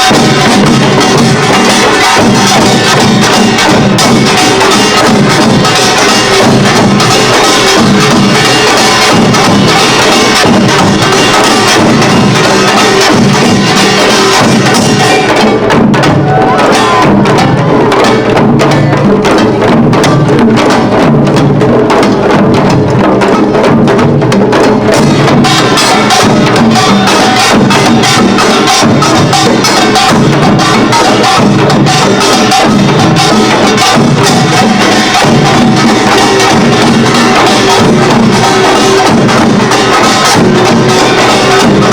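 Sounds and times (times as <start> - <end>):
drums beating fast rhythm: 0.0 - 41.9.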